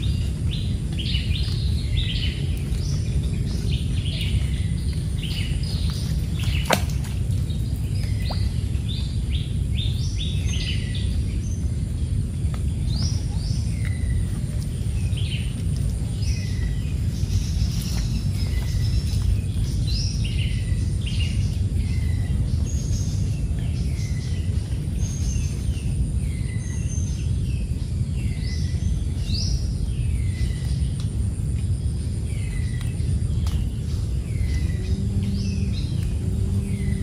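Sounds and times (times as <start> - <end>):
stream rumbling: 0.0 - 37.0.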